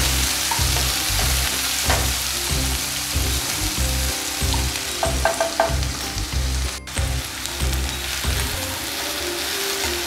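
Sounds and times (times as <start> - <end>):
onions sizzling in a pan: 0.0 - 10.0.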